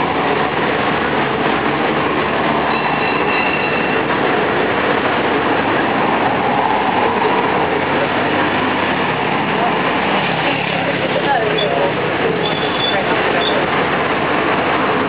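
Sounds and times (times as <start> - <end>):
road train running noise: 0.0 - 15.0.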